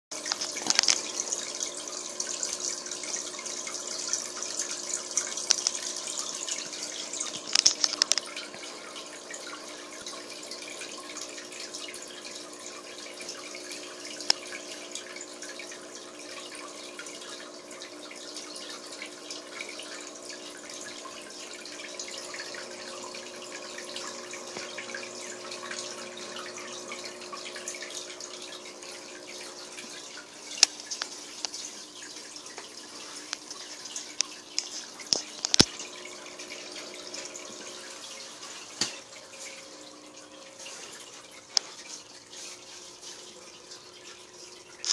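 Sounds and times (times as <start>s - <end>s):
filter water splashing and trickling: 0.1s - 44.9s.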